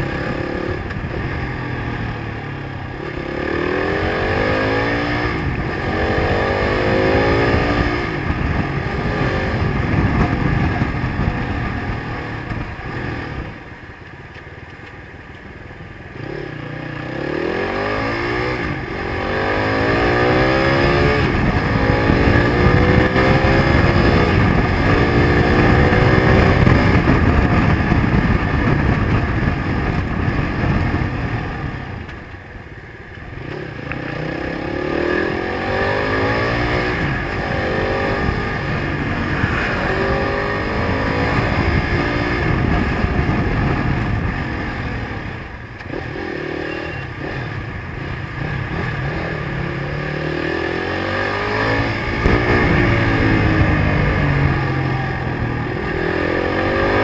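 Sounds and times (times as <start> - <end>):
motorcycle engine revving: 0.0 - 13.9, 16.0 - 57.0.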